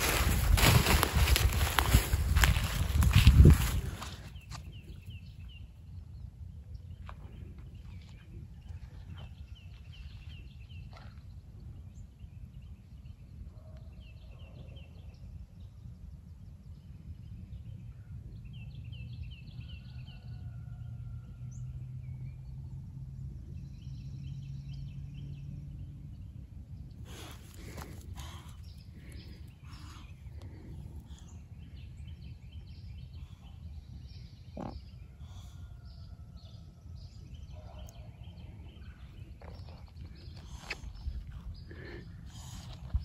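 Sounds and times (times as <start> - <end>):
low steady outdoor rumble: 0.0 - 43.0
songbird singing: 0.0 - 43.0.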